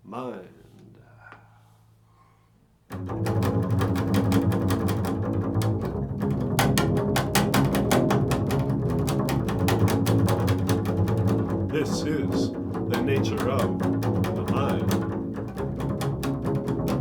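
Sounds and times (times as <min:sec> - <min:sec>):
improvised instrumental music: 0:02.9 - 0:17.0.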